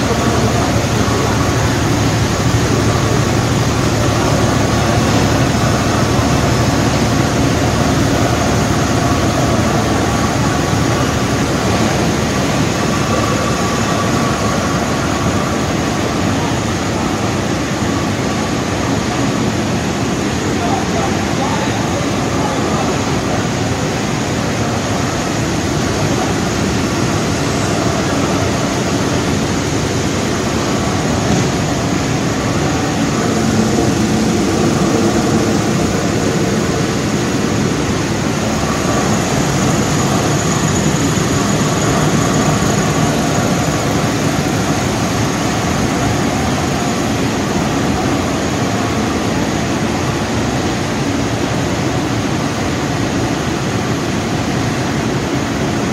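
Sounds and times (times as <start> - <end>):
vibrating sieve machinery: 0.0 - 52.6.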